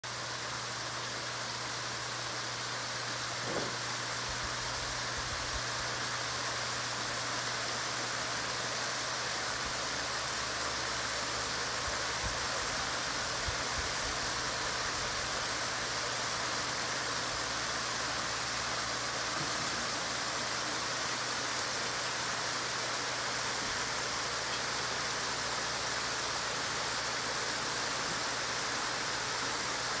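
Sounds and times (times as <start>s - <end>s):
waterfall splashing over rocks: 0.0s - 30.0s.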